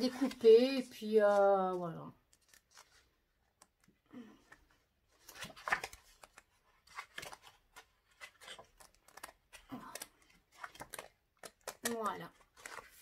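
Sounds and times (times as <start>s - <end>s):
paper pages rustling: 0.0s - 13.0s
small paper clicks: 1.2s - 13.0s.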